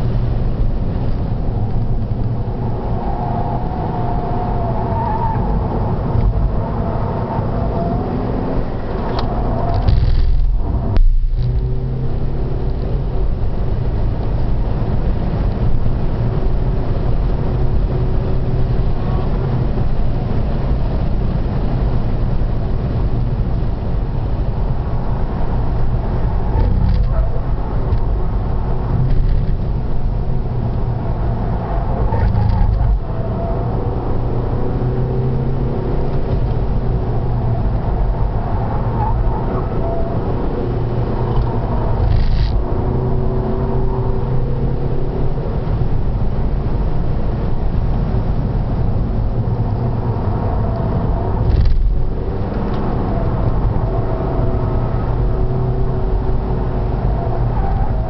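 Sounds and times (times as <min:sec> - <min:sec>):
car engine running hard: 0:00.0 - 0:58.0
wind noise: 0:00.0 - 0:58.0.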